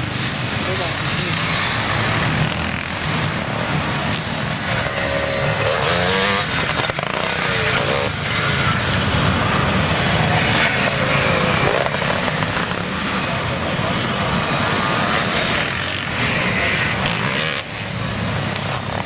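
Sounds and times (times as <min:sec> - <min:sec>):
motocross motorcycles racing: 0:00.0 - 0:19.0.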